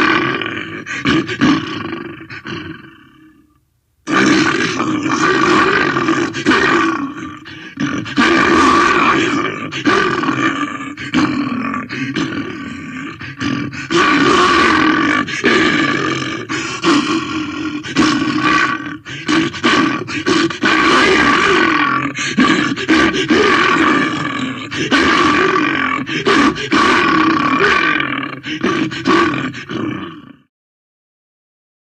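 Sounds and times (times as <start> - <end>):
bear roaring and growling: 0.0 - 3.5, 4.1 - 30.5.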